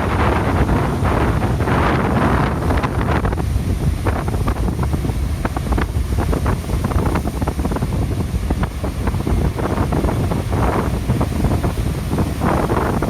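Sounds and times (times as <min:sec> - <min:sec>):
rough sea surf: 0:00.0 - 0:13.0
wind buffeting microphone: 0:00.0 - 0:13.0.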